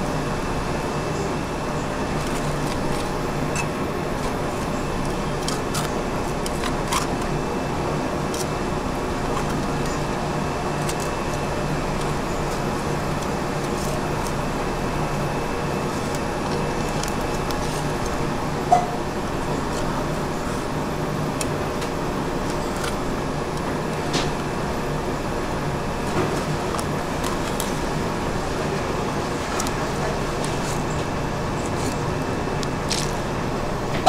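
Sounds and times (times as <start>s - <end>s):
ventilation hum: 0.0s - 34.0s.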